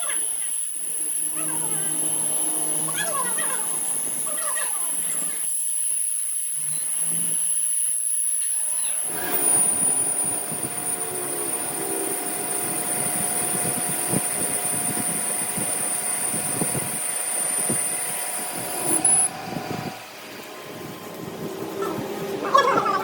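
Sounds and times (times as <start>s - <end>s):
machine whining: 0.0s - 23.0s.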